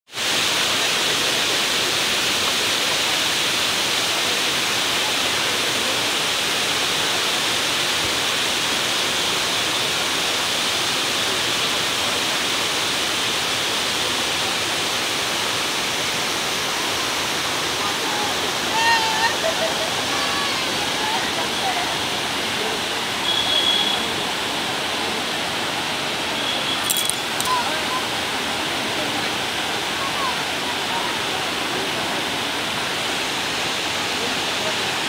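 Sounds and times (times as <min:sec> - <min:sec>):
water rushing over a weir: 0:00.1 - 0:35.0.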